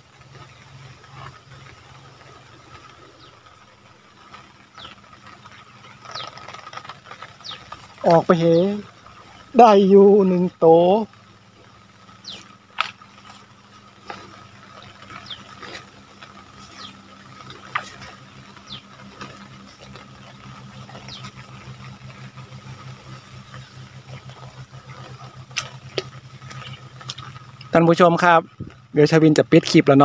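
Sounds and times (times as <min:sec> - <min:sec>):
flowing river water: 0:00.0 - 0:28.9
low engine-like hum: 0:00.0 - 0:30.0.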